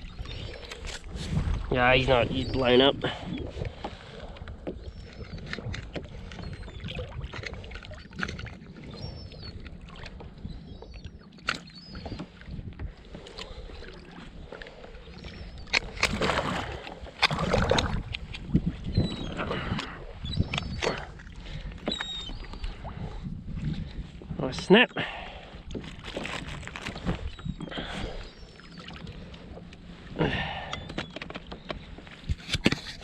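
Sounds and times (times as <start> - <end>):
wind on microphone: 0.0 - 11.2, 11.8 - 31.0, 31.6 - 33.0
water sloshing against kayak: 0.0 - 33.0.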